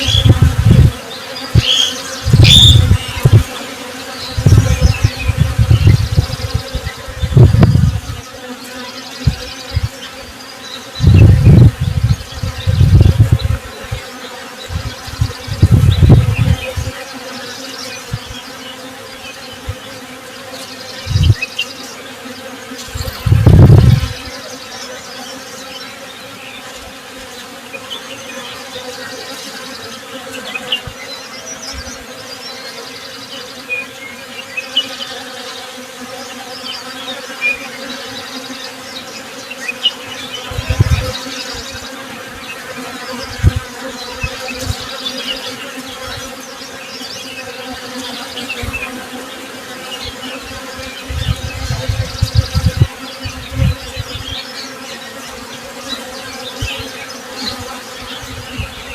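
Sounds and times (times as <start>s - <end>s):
honey bees buzzing: 0.0s - 58.9s
small birds chirping: 0.0s - 58.9s.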